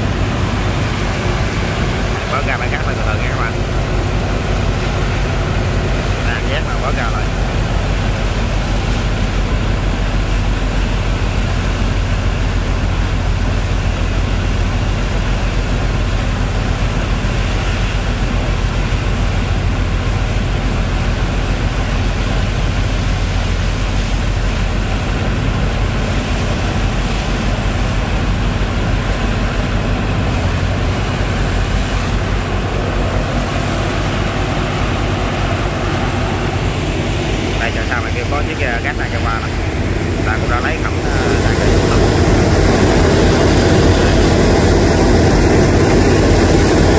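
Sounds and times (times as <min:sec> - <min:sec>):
pump engine droning: 0:00.0 - 0:46.9
rushing water from pumping: 0:00.0 - 0:46.9.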